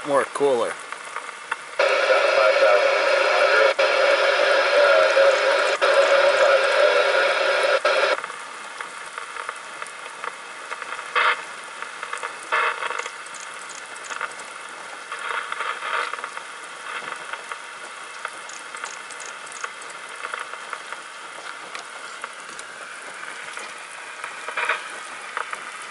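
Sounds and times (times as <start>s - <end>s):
loud radio-like sound: 0.0s - 25.9s
rain hiss and patter: 0.0s - 25.9s.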